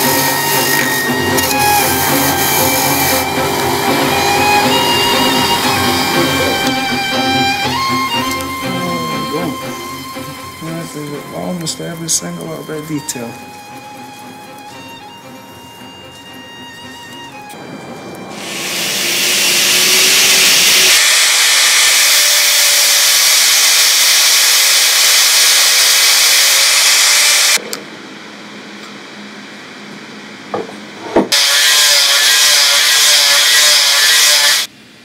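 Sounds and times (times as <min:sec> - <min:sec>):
angle grinder grinding metal: 0:00.0 - 0:27.6, 0:31.3 - 0:34.7.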